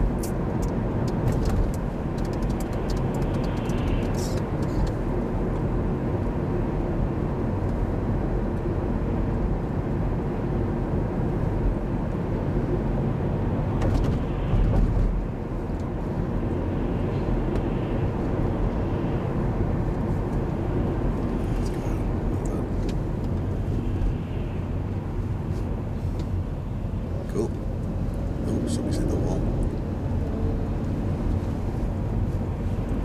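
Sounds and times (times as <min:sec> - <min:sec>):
car cabin road rumble: 0:00.0 - 0:33.0.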